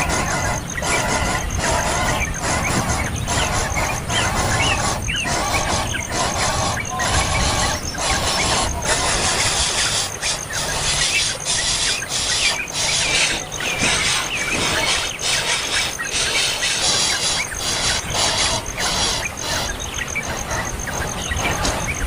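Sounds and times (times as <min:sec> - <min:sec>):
songbirds squealing cries: 0:00.0 - 0:22.0
thin high bird chirps: 0:00.0 - 0:22.0.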